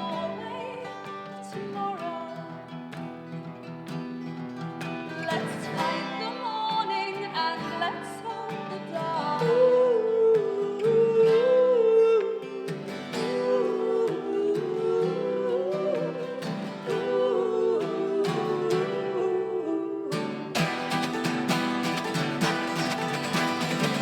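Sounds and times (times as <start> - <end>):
person singing: 0.0 - 2.6, 5.1 - 24.0
acoustic guitar strumming: 0.0 - 24.0.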